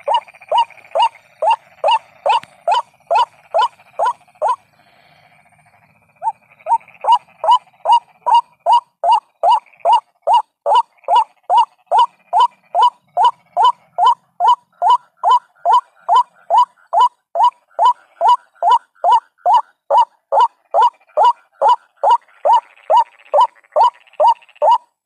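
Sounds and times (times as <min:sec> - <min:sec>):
bird call repeating: 0:00.0 - 0:04.6, 0:06.2 - 0:24.9.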